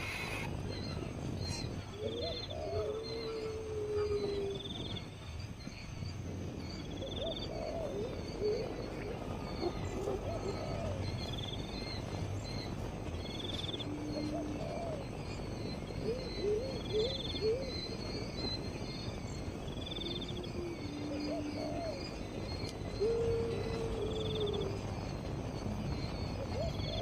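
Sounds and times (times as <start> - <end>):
wild birds calling: 0.0 - 27.0.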